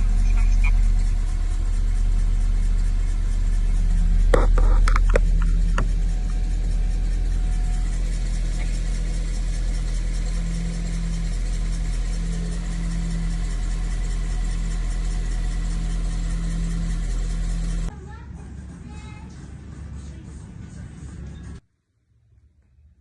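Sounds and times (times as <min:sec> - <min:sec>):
car engine running steadily: 0:00.0 - 0:21.6.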